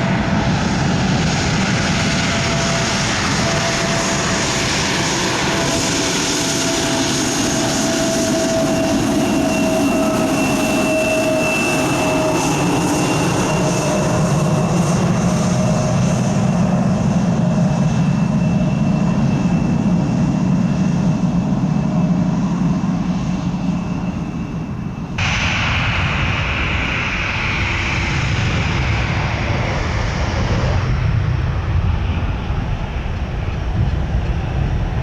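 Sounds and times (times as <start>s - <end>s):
jet airliner engines running: 0.0s - 35.0s.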